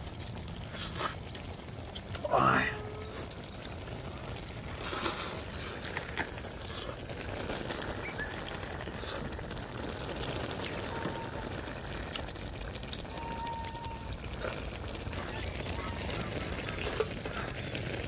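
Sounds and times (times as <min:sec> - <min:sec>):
people slurping and chewing: 0:00.0 - 0:18.0.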